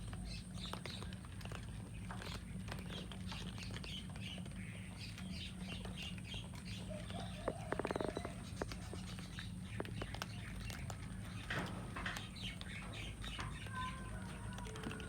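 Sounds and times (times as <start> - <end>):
cats crunching food: 0.0 - 15.0
steady low hum: 0.0 - 15.0.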